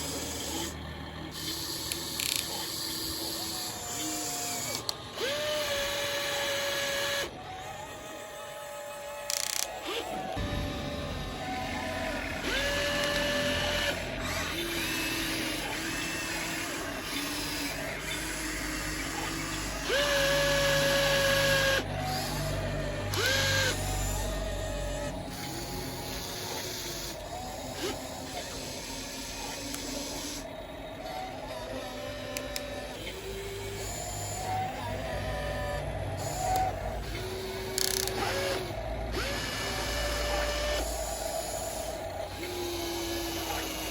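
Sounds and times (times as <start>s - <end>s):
small electric motors whining: 0.0s - 43.9s.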